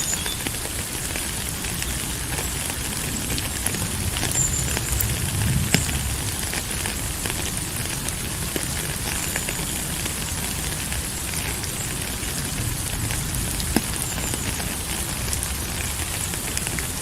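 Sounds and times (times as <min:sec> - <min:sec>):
raindrop ticks: 0:00.0 - 0:17.0
steady rain falling: 0:00.0 - 0:17.0.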